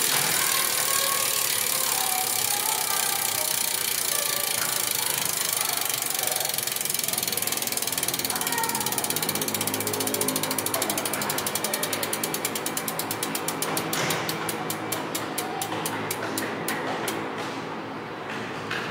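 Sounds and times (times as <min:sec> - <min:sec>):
bicycle freehub ratcheting: 0:00.0 - 0:17.2.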